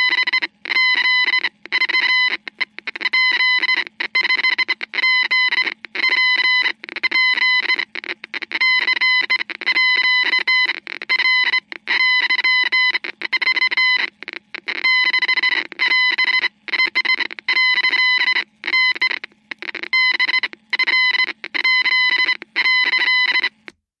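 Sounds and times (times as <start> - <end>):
morse code beeping: 0.0 - 23.6.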